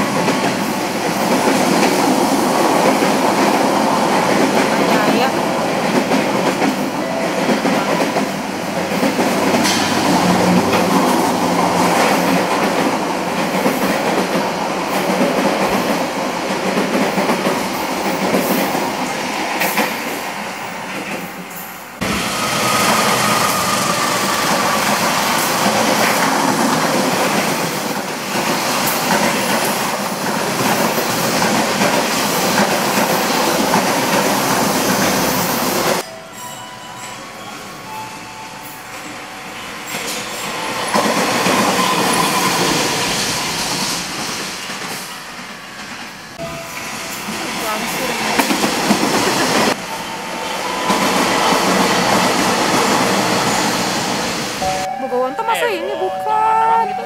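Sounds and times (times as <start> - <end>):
train wheels rumbling on rails: 0.0 - 36.6, 38.8 - 54.9.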